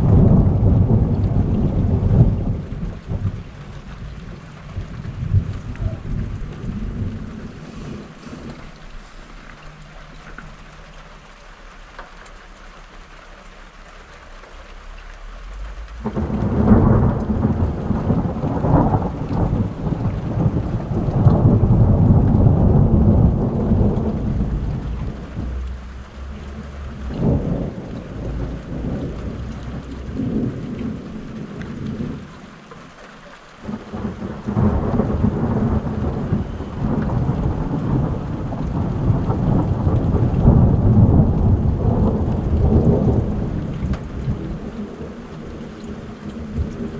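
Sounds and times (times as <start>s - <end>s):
rolling thunder rumble: 0.0s - 11.0s, 15.3s - 32.3s, 33.6s - 46.9s
rain falling: 0.0s - 46.9s.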